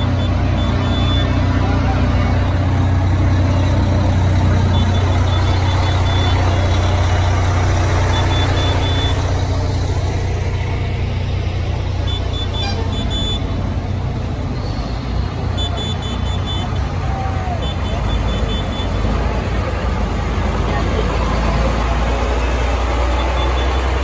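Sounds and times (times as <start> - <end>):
fire engine droning past: 0.0 - 24.0.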